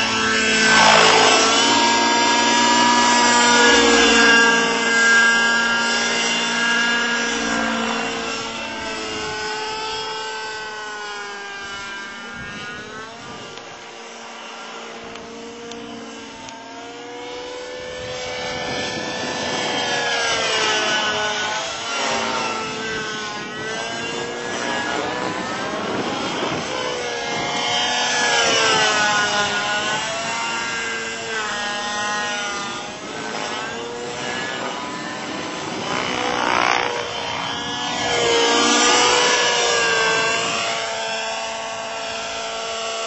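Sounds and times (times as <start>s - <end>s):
model helicopter engine whine: 0.0s - 43.0s.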